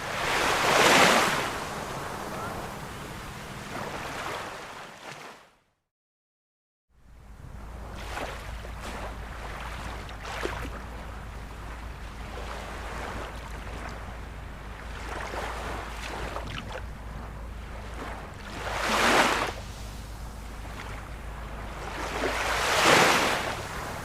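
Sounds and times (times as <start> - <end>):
ocean surf rushing: 0.0 - 4.8, 7.4 - 24.0.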